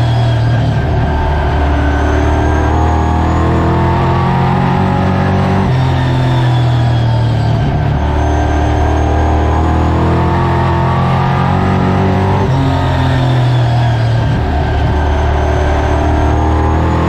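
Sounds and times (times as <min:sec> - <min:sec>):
race car engine running hard: 0:00.0 - 0:17.0.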